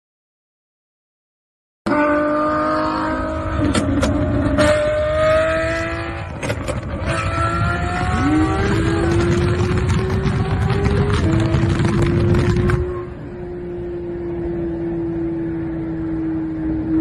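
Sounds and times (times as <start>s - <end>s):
sports car engine accelerating: 1.9s - 17.0s.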